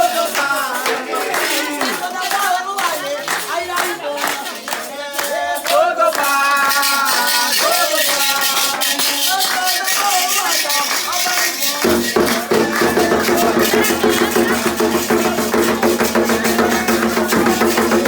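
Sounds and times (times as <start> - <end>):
rattle shaken in rhythm: 0.0 - 18.0
voices chanting: 0.0 - 18.0.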